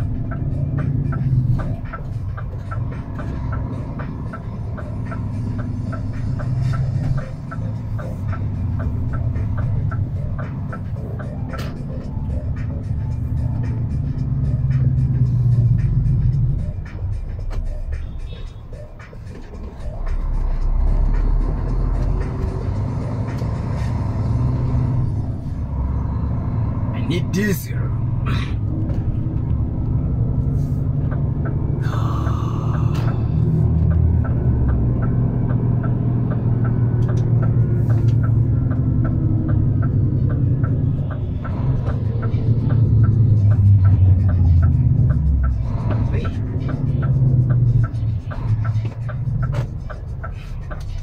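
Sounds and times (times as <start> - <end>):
diesel truck engine running: 0.0 - 51.0
turn indicator ticking: 0.0 - 51.0.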